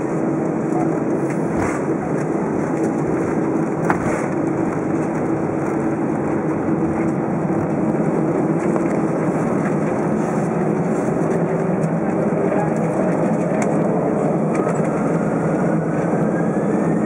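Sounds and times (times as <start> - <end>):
airflow rumble: 0.0 - 17.0
jet engine hum in cabin: 0.0 - 17.0.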